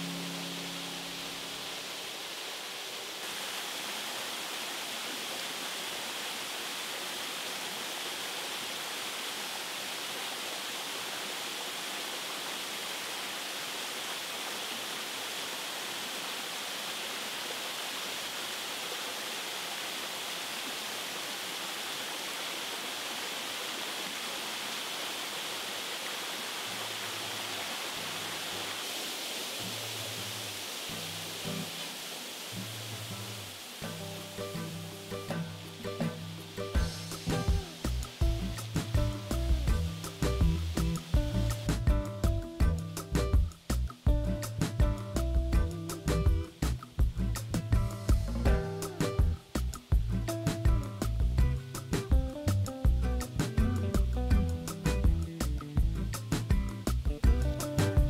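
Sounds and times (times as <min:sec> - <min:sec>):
small waterfall splashing onto rock: 0:01.9 - 0:58.0.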